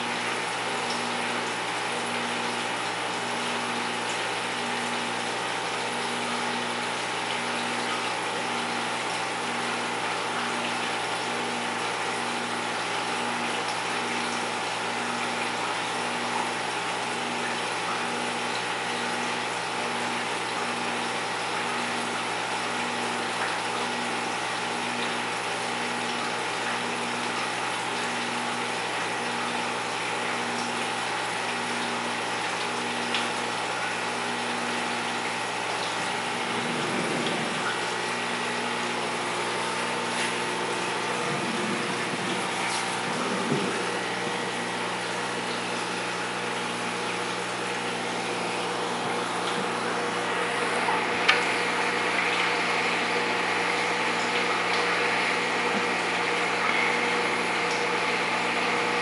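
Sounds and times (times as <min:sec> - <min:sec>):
filter pump humming: 0:00.0 - 0:59.0.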